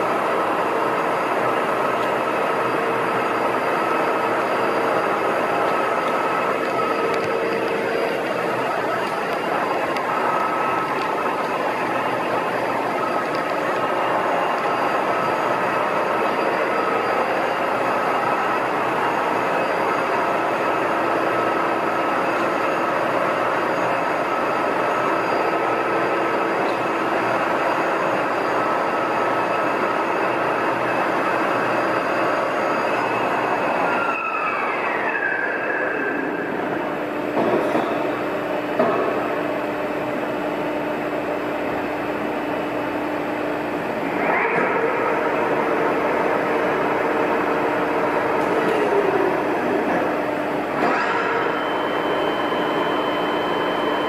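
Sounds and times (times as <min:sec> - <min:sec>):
lathe running with gear whine: 0:00.0 - 0:54.0.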